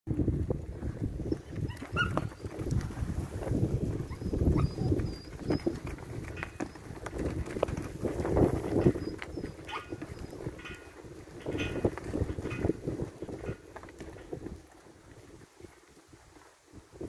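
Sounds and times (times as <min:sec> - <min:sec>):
hooves and paws thudding on dirt: 0:00.1 - 0:17.0.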